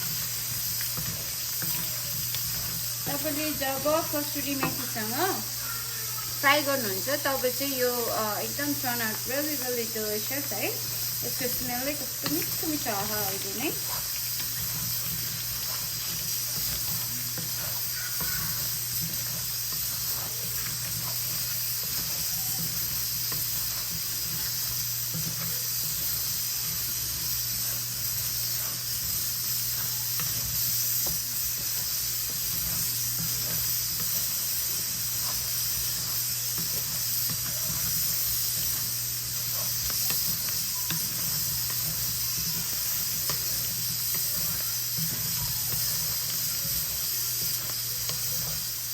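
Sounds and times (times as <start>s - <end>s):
potatoes sizzling in hot oil: 0.0s - 48.9s.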